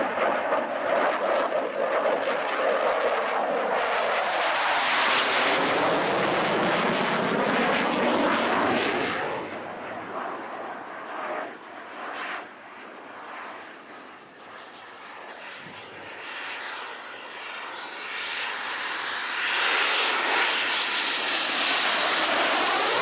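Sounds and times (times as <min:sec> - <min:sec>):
jet flyby rush: 0:04.0 - 0:23.0.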